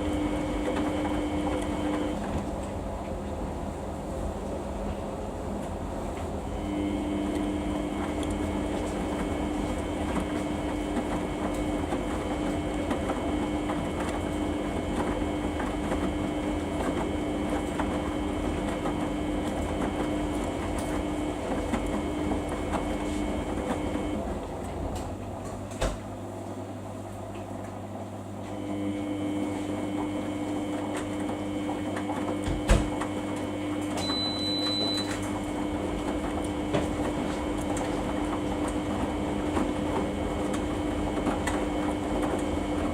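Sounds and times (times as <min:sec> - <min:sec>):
washing machine motor whining: 0:00.0 - 0:03.0, 0:06.2 - 0:26.1, 0:28.2 - 0:42.9.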